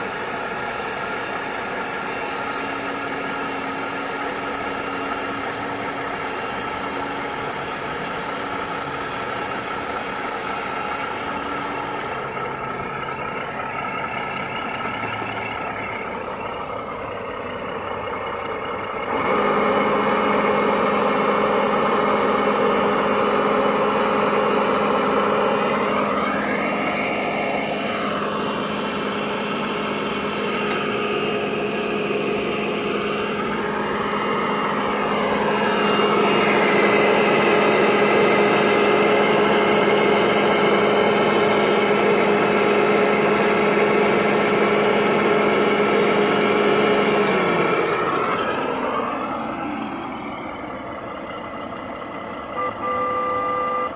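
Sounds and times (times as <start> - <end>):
rising and falling whine: 0.0 - 53.9
simulated diesel truck engine: 0.0 - 53.9.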